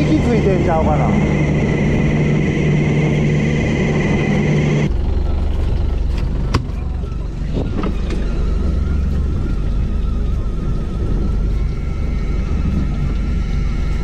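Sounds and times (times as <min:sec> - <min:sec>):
fishing reel motor whine: 0:00.0 - 0:06.4, 0:07.2 - 0:14.0
boat engine rumble: 0:00.0 - 0:14.0.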